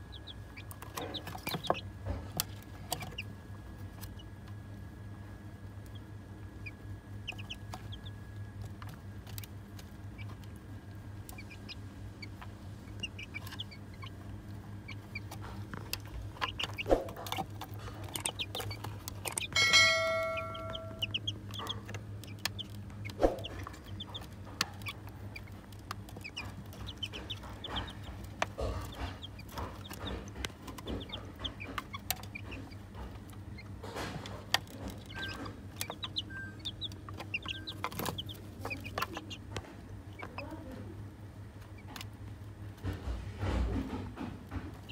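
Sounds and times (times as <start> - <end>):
beaks pecking on plastic: 0.0 - 43.0
chicks peeping and chirping: 0.0 - 44.9
low steady hum: 0.0 - 44.9.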